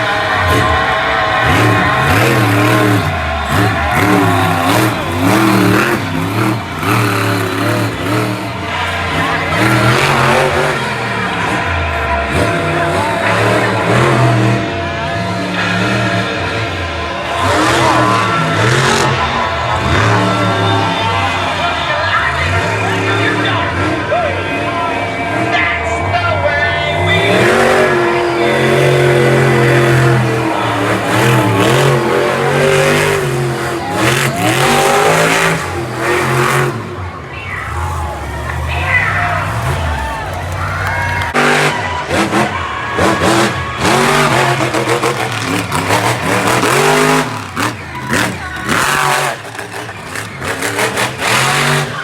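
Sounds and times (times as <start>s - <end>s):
loud music: 0.0s - 52.0s
truck engine revving: 0.0s - 52.0s.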